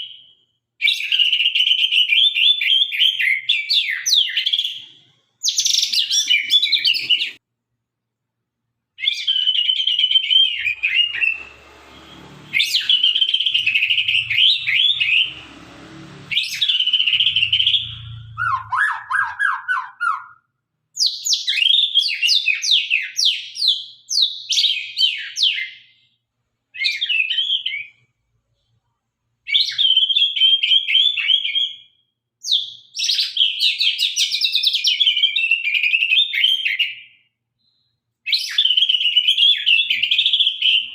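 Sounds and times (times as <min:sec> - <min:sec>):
songbird whistles and trills: 0:00.0 - 0:07.4, 0:09.0 - 0:11.5, 0:12.5 - 0:15.4, 0:16.3 - 0:26.0, 0:29.5 - 0:40.9.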